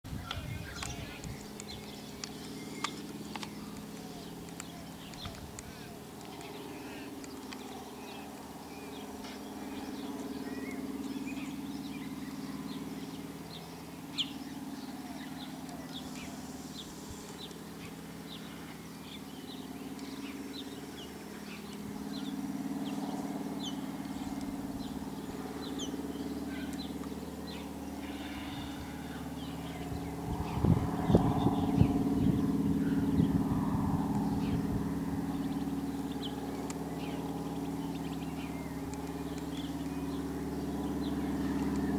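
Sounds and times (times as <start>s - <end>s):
propeller plane engine droning: 0.0s - 41.9s
small birds chirping: 0.1s - 41.9s.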